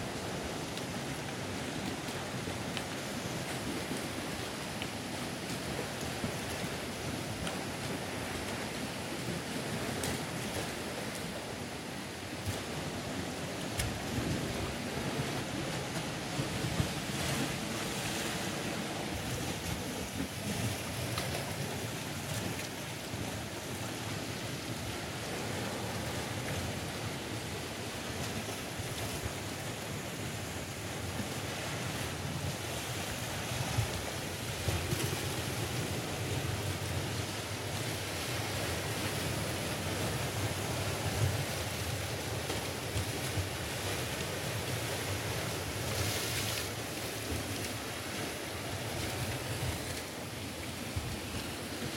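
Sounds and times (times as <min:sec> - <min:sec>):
waves washing against rocks: 0:00.0 - 0:51.9.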